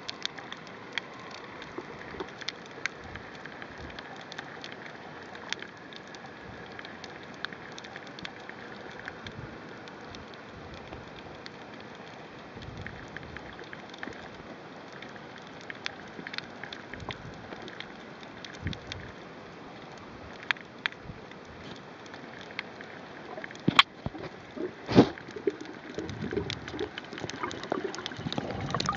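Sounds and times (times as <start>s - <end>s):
faint clicks and crackles: 0.0s - 28.9s
steady underwater hiss: 0.0s - 28.9s.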